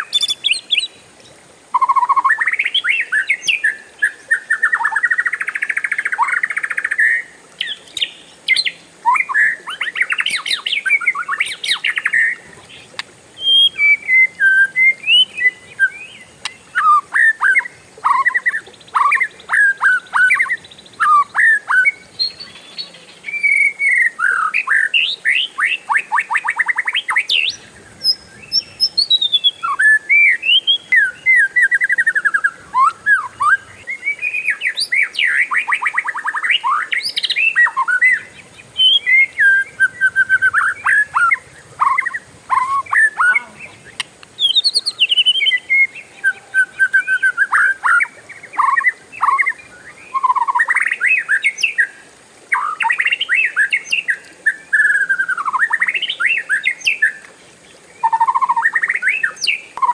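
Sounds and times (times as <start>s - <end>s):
bird singing trills and whistles: 0.0s - 1.0s, 1.7s - 57.3s, 58.0s - 59.9s.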